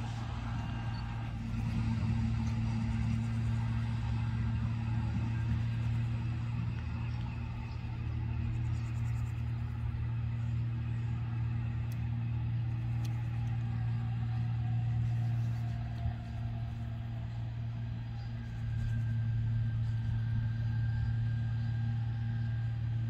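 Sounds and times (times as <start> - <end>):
electric train humming: 0.0 - 23.0
faint whine falling in pitch: 0.0 - 23.0.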